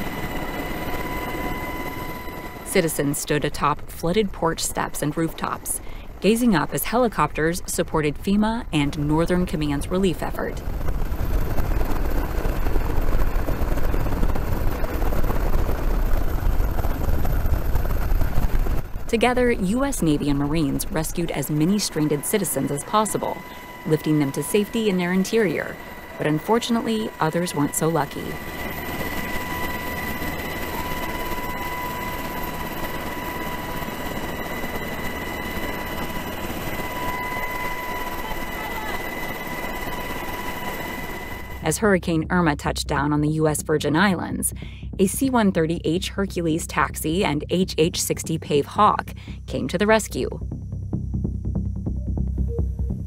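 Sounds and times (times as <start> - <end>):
helicopter rotor and engine: 0.0 - 50.4.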